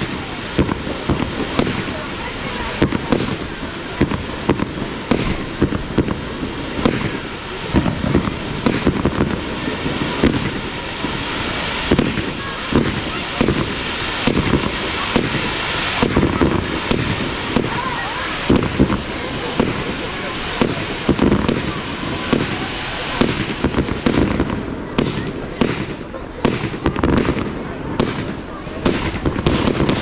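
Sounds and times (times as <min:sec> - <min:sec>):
fireworks bangs: 0:00.0 - 0:30.0
fireworks crackle and hiss: 0:00.0 - 0:30.0.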